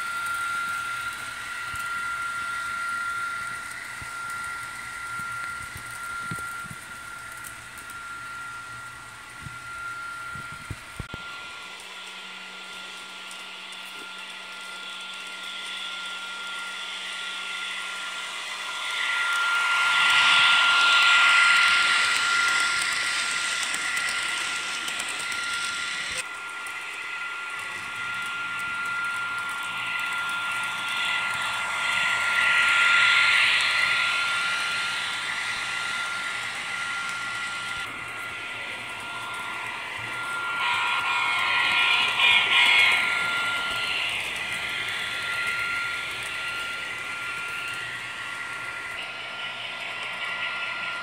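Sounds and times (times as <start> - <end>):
model train rolling on track: 0.0 - 51.0
steady high whine: 0.0 - 51.0.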